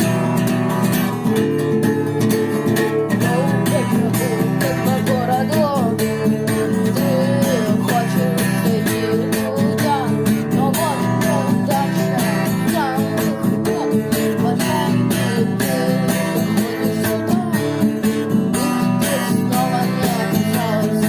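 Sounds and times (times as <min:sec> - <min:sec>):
bass guitar: 0:00.0 - 0:21.0
lead electric guitar melody: 0:00.0 - 0:21.0
strummed rhythm guitar: 0:00.0 - 0:21.0.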